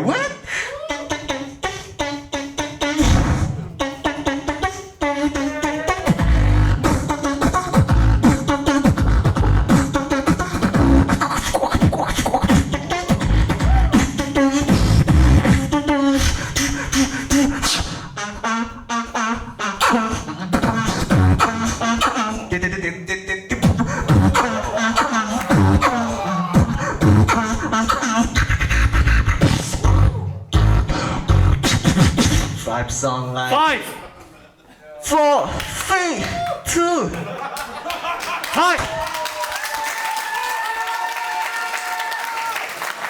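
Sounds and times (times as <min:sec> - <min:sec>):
beatboxing into a microphone: 0:00.0 - 0:34.0, 0:35.0 - 0:37.3.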